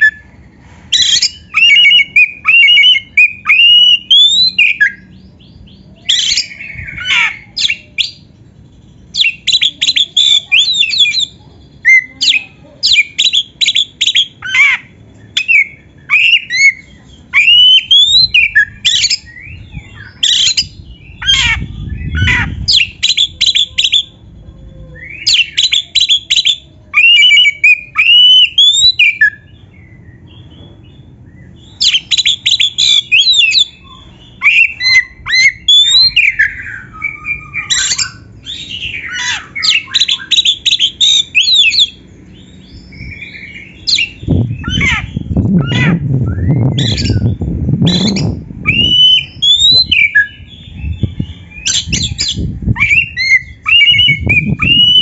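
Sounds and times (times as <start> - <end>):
bird singing whistled phrases: 0.9 - 8.3, 9.1 - 24.2, 24.9 - 30.3, 31.3 - 55.0.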